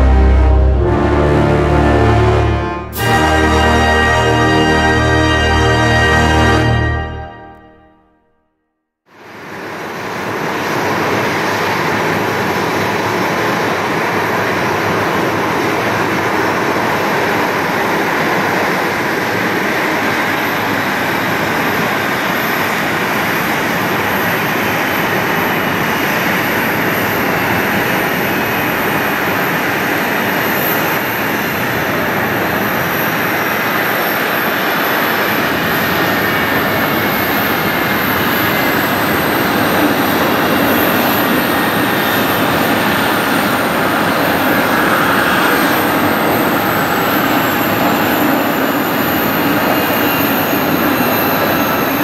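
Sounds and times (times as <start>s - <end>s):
jet engine noise: 9.2s - 52.0s.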